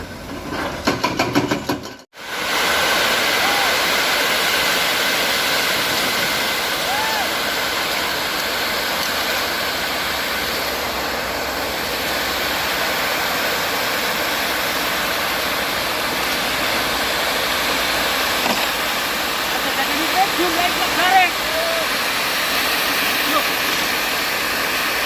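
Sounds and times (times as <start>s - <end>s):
concrete mixer truck running: 2.6s - 25.0s.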